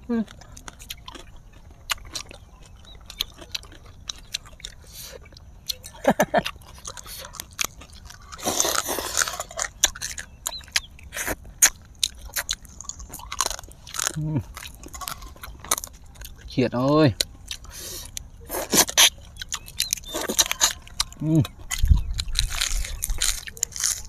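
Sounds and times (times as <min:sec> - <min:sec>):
people chewing and crunching food: 0:00.0 - 0:24.0.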